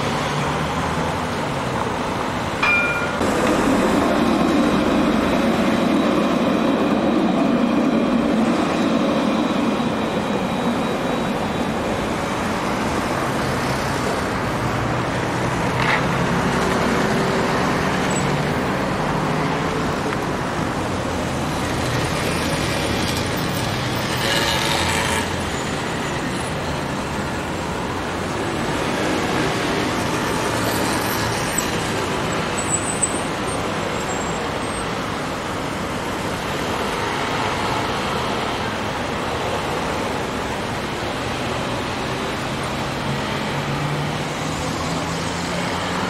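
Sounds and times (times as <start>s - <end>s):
road traffic: 0.0s - 46.0s.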